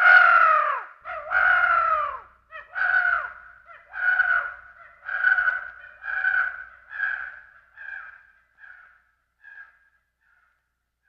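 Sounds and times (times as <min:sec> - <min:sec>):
crow cawing: 0:00.0 - 0:10.6.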